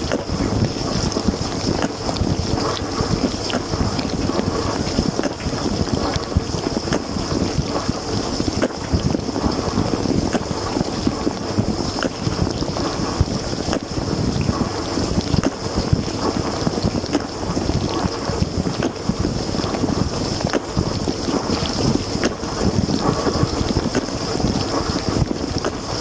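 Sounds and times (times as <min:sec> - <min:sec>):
dishwasher jets drumming on dishes: 0:00.0 - 0:26.0.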